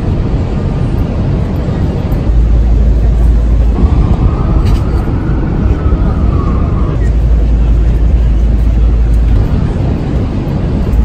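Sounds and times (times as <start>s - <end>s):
faint whine: 0.0s - 11.0s
traffic noise: 0.0s - 11.0s
wind rumbling on microphone: 0.0s - 11.0s.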